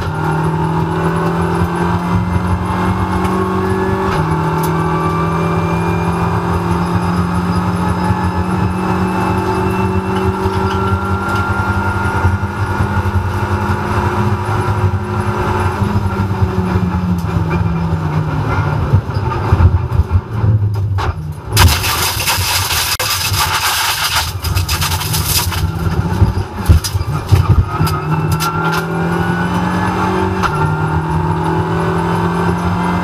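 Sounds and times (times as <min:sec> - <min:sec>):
race car engine revving: 0:00.0 - 0:17.3, 0:21.6 - 0:33.0.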